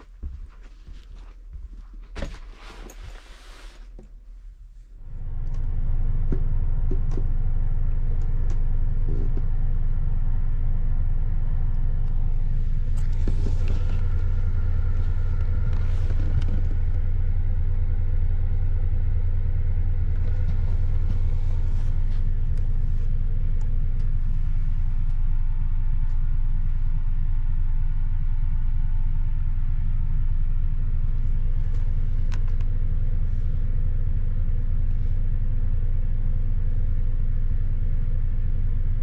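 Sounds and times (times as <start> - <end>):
train rumble and hum: 5.0 - 36.9.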